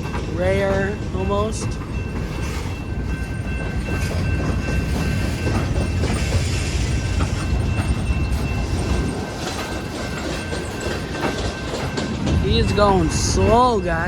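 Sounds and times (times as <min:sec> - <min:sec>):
freight train cars rumbling: 0:00.0 - 0:14.0
wheels clicking over rail joints: 0:00.0 - 0:14.0.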